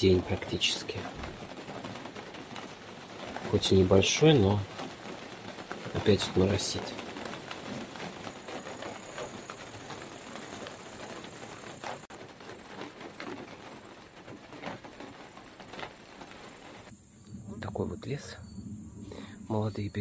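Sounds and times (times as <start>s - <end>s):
light drizzle pattering: 0.0s - 20.0s.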